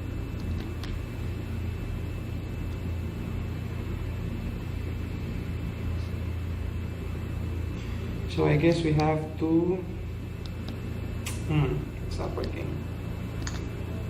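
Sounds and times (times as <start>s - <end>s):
low background rumble and hum: 0.0s - 14.0s.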